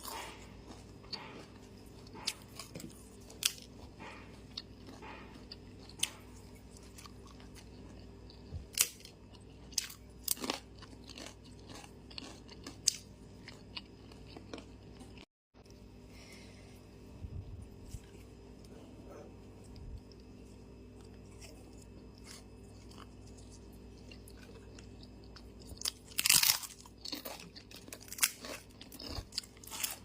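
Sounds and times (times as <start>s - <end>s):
person chewing: 0.0s - 15.3s, 17.6s - 30.0s.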